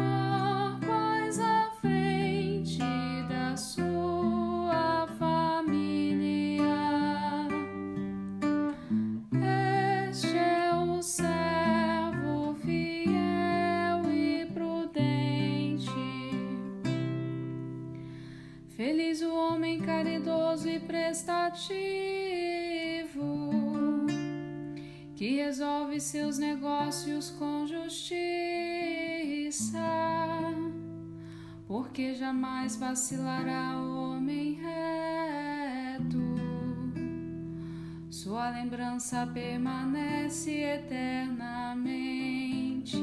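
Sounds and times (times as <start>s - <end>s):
acoustic guitar accompaniment: 0.0s - 43.0s.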